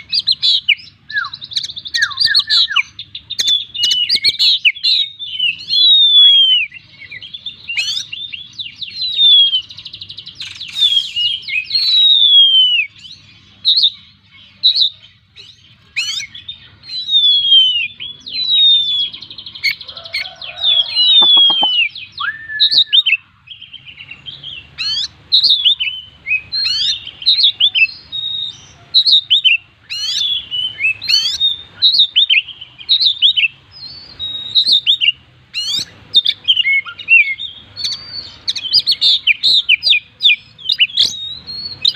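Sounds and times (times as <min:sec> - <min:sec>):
bird singing whistled phrases: 0:00.0 - 0:14.0, 0:14.7 - 0:41.9.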